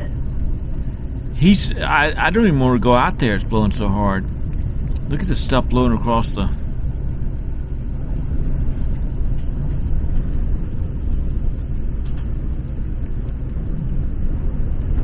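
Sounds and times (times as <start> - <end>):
storm wind buffeting motorhome: 0.0 - 15.0.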